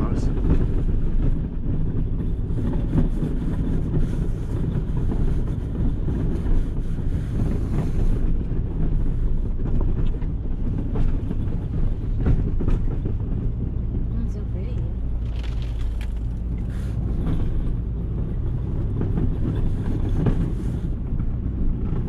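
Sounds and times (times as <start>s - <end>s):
snow plow engine droning: 0.0s - 22.0s.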